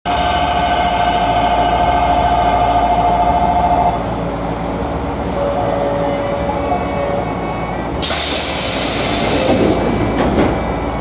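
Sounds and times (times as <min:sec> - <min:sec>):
train equipment whine: 0:00.1 - 0:11.0.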